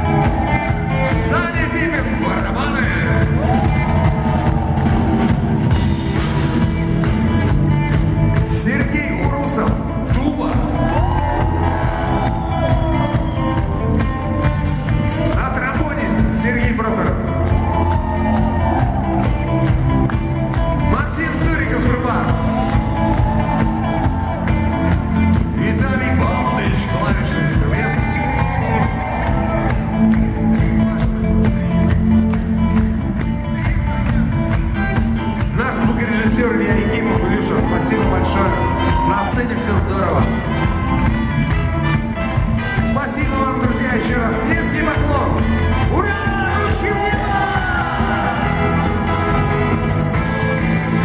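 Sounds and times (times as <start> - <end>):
drums steady beat: 0.0 - 33.1, 33.7 - 51.0
rock band playing live: 0.0 - 51.0.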